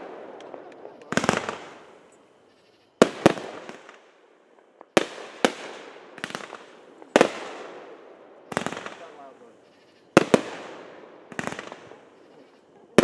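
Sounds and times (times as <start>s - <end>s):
fireworks bangs: 0.0s - 2.2s, 3.0s - 13.0s.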